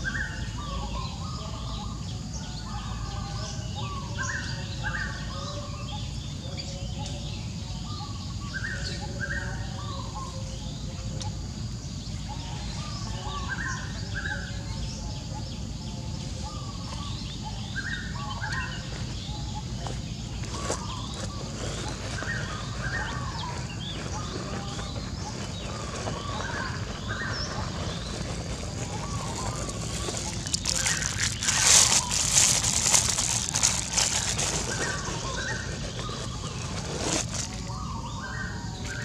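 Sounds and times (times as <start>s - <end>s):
birds chirping: 0.0s - 39.0s
low outdoor rumble: 7.2s - 39.0s.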